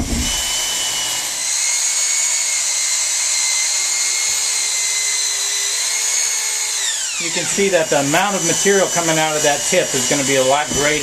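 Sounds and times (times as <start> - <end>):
plastic welding extruder whining: 0.0 - 11.0.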